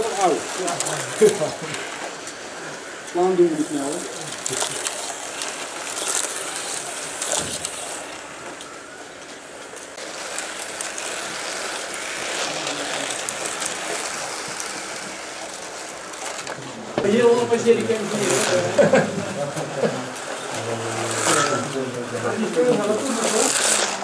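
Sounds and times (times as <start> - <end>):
slot cars rattling in track: 0.0 - 24.0
whirr of small electric motors: 0.0 - 24.0.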